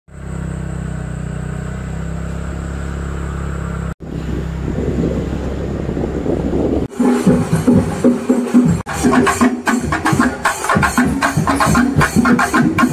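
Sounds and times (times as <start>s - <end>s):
vehicle engine humming: 0.1s - 12.9s.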